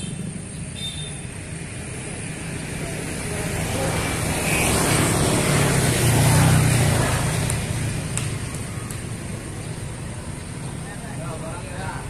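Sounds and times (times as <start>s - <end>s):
motor scooter passing by: 0.0s - 12.0s.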